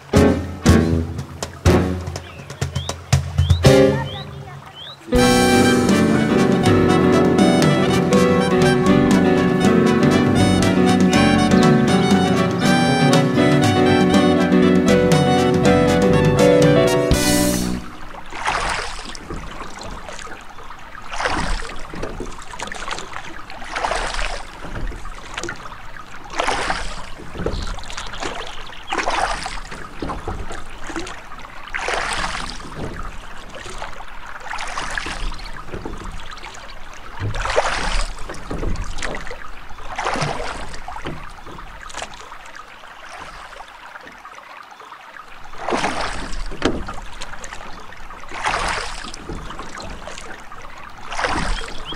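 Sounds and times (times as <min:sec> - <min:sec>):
water lapping and splashing: 0:00.0 - 0:51.9.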